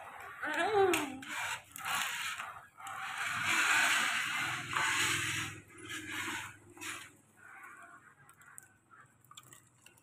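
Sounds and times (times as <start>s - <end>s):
toy wheels scraping wooden floor: 0.0s - 8.6s.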